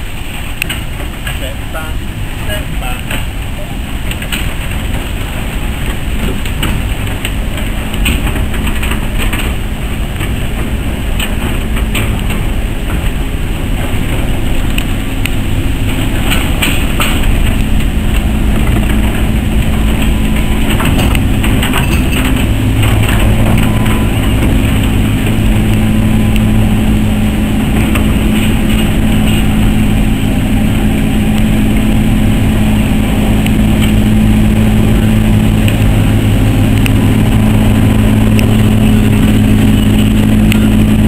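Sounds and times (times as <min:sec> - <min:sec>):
diesel locomotive engine: 0:00.0 - 0:41.0
train wheels clicking over rail joints: 0:00.0 - 0:41.0.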